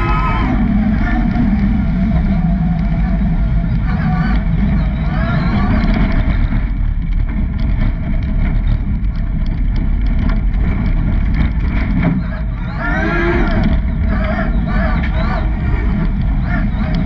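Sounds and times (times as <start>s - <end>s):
electric race car driving: 0.0s - 17.0s
wind buffeting microphone: 0.0s - 17.0s.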